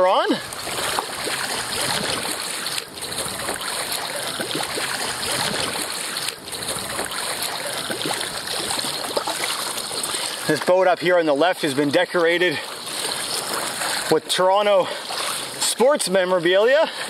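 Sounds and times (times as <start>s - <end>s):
water splashing against kayak: 0.0s - 17.0s.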